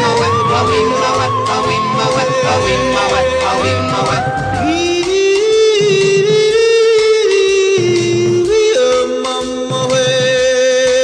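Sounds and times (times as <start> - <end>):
high singing voice: 0.0 - 9.7
musical backing with low pulse: 0.0 - 10.5.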